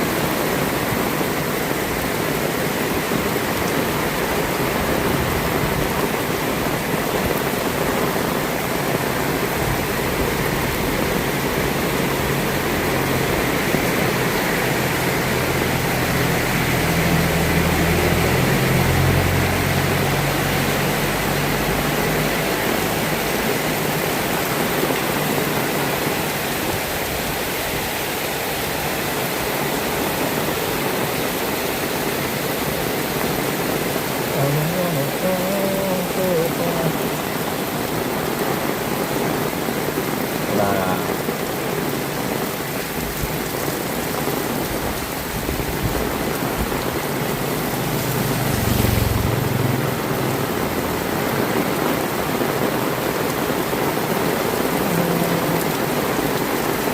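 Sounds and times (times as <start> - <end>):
heavy rain hiss: 0.0 - 56.9.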